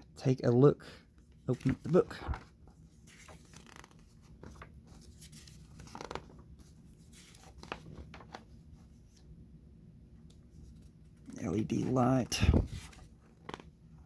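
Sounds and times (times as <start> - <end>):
paper pages rustling and turning: 1.2 - 9.3, 10.2 - 14.0.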